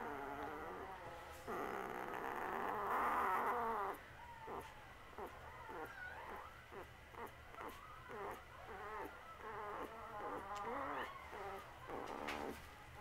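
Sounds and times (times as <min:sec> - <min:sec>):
puppy whimpering and grunting: 0:00.0 - 0:12.6.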